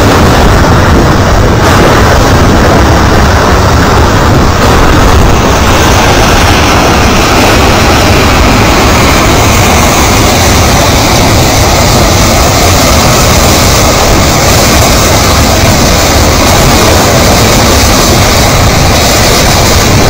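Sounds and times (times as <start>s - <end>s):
debris flow rumbling: 0.0s - 20.0s.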